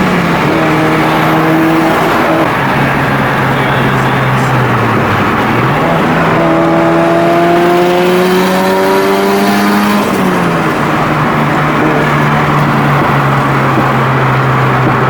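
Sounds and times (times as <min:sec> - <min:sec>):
car engine accelerating: 0:00.0 - 0:15.0
road noise: 0:00.0 - 0:15.0.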